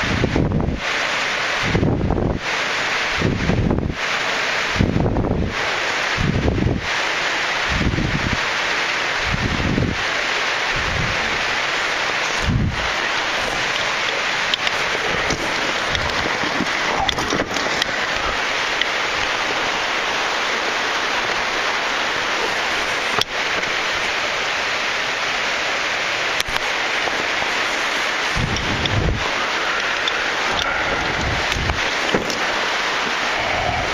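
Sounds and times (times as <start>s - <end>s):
waterfall pouring: 0.4s - 33.9s.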